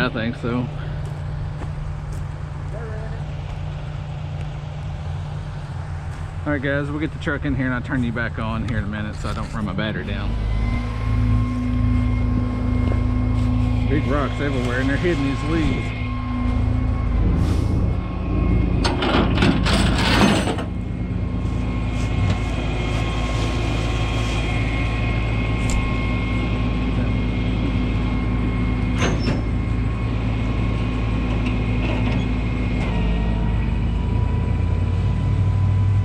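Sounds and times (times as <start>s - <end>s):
truck engine humming: 0.0s - 36.0s.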